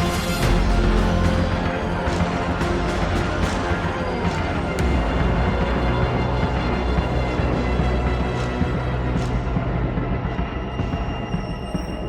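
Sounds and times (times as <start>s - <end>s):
music with heavy bass and drums: 0.0s - 12.0s.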